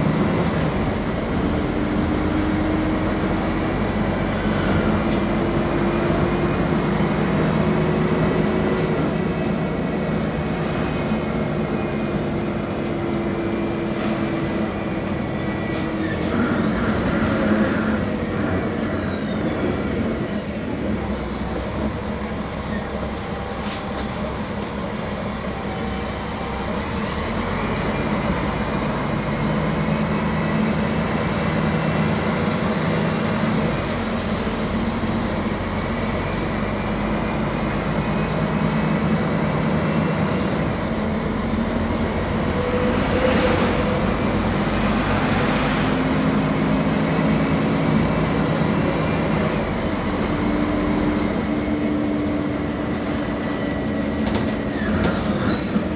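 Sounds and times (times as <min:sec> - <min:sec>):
diesel bus engine running: 0:00.0 - 0:55.9.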